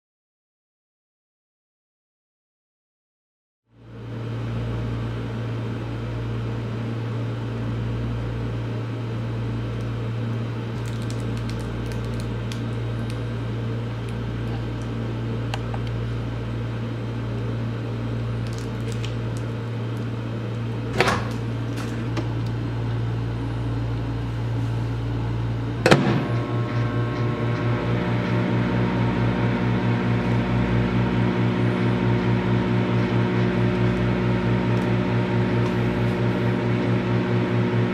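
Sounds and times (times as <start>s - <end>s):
microwave oven humming: 3.7s - 37.9s.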